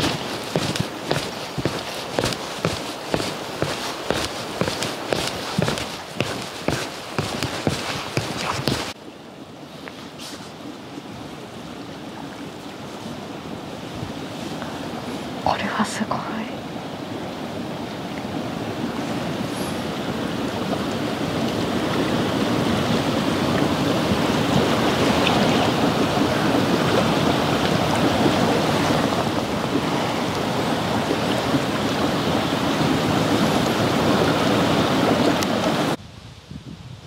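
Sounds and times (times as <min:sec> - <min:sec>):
lake waves: 0:00.0 - 0:36.0.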